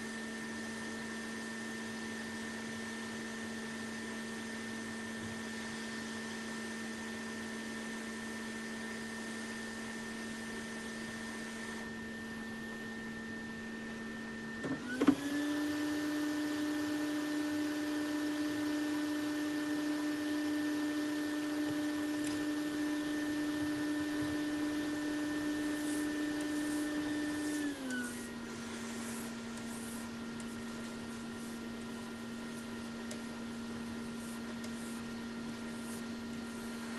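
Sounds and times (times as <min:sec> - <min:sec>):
hot air blower fan running: 0:00.0 - 0:36.9.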